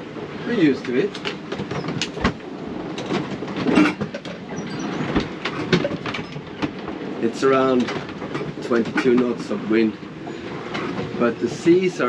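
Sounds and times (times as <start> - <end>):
yacht fittings knocking and creaking: 0.0 - 12.0.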